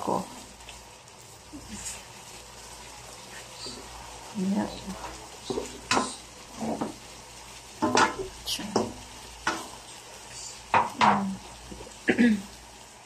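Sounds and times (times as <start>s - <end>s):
spatula scraping wok: 0.0s - 12.0s
chicken sizzling in oil: 0.0s - 13.0s.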